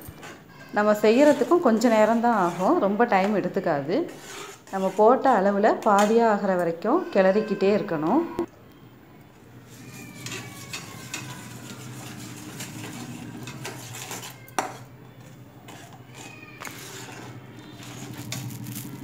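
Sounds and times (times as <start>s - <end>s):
metal spatula scraping a pan: 0.0s - 6.4s, 9.6s - 19.0s.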